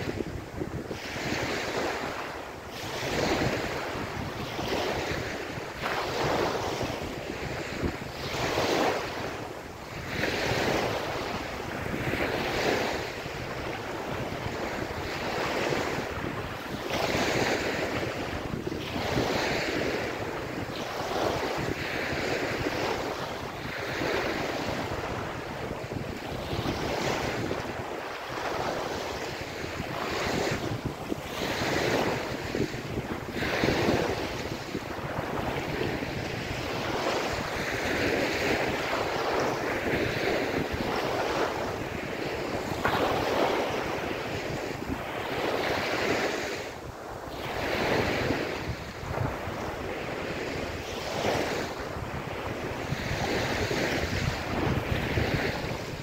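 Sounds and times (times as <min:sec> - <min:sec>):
ocean waves breaking on beach: 0:00.0 - 0:56.0
wind on microphone: 0:00.0 - 0:56.0.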